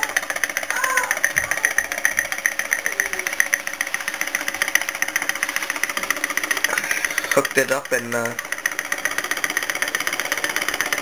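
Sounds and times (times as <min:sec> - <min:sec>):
small engine ticking clatter: 0:00.0 - 0:11.0.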